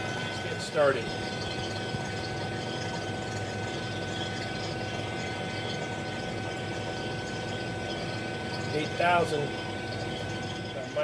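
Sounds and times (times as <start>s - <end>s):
vacuum pump humming and whining: 0.0s - 11.0s.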